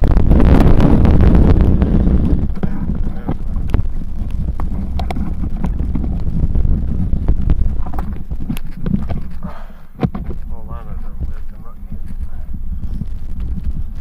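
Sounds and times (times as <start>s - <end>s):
bicycle rattling on dirt trail: 0.0s - 14.0s
wind buffeting microphone: 0.0s - 14.0s.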